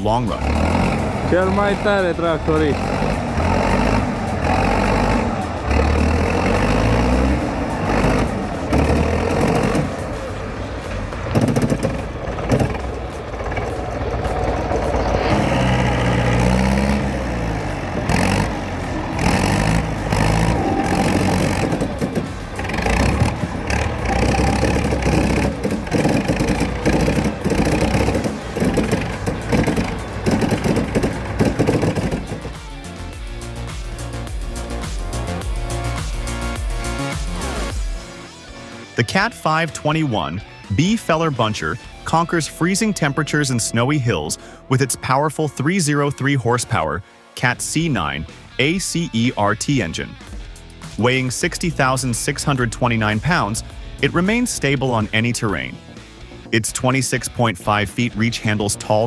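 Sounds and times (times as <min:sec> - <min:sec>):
tractor engine under load: 0:00.0 - 0:37.8, 0:47.4 - 0:59.0.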